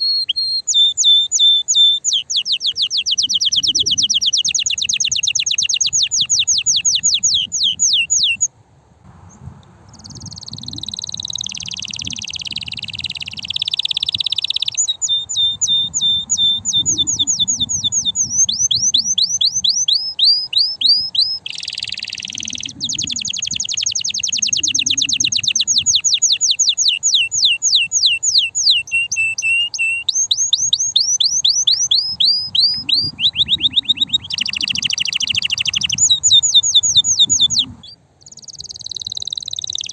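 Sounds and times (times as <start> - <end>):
canary singing trills: 0.0 - 8.5, 9.3 - 39.9.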